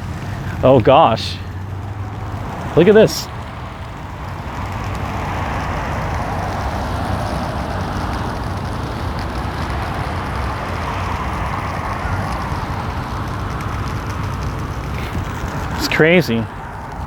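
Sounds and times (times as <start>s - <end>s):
tyre hiss on wet road: 0.0s - 17.0s
wind: 0.0s - 17.0s.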